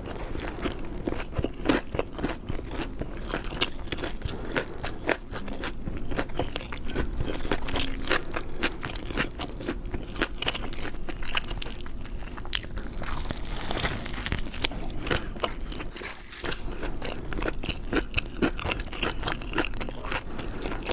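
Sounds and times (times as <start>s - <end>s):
person chewing crunchy food: 0.0s - 20.9s.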